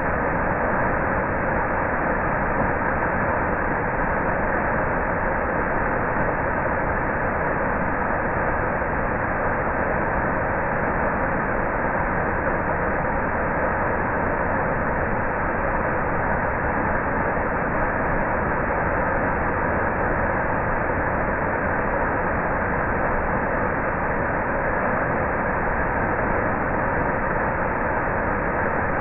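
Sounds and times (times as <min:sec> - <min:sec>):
waterfall rushing into pool: 0:00.0 - 0:29.0.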